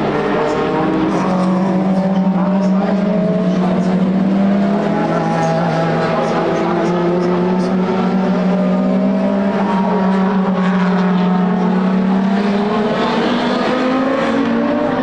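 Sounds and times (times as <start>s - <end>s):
racing car engines running hard: 0.0s - 15.0s.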